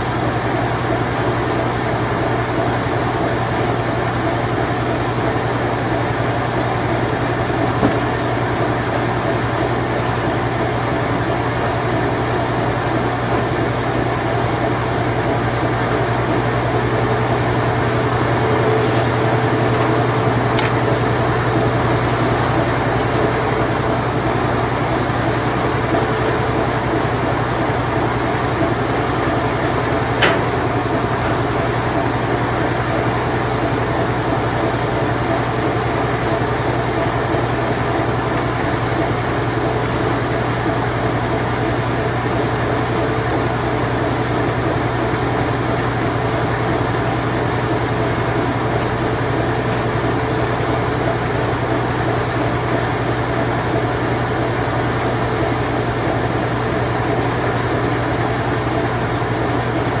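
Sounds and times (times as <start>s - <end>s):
washing machine spinning: 0.0s - 60.0s.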